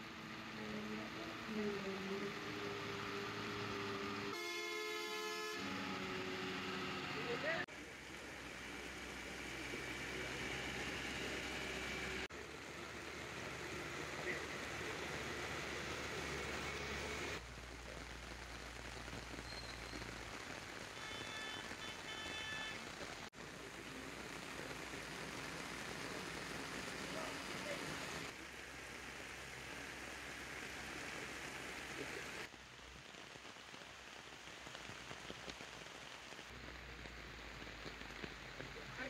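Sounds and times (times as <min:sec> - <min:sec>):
rain on ground and foliage: 0:00.0 - 0:39.0.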